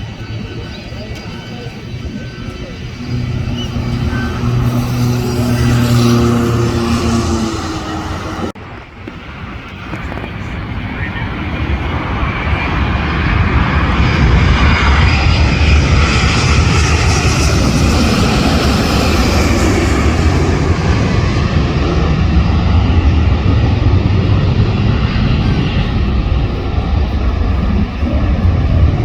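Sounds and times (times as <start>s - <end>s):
jet airliner engine roar: 0.0s - 29.0s.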